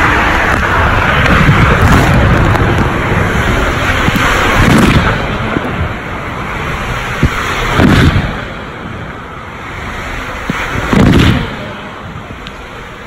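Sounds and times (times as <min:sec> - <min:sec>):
water rushing in tube slide: 0:00.0 - 0:13.0.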